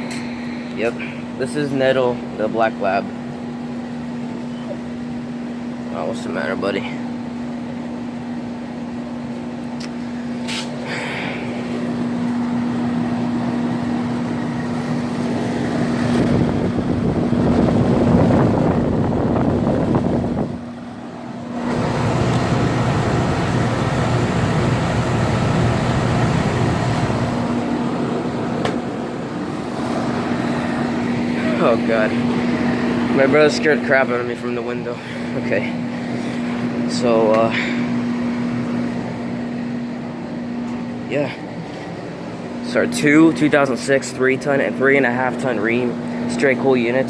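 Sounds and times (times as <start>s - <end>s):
compressor hum: 0.0s - 47.0s
condenser fans rushing: 0.0s - 47.0s.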